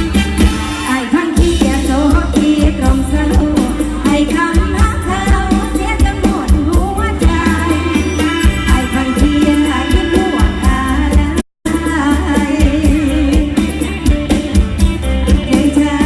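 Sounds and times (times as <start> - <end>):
band with drum beat and bass: 0.0 - 16.0.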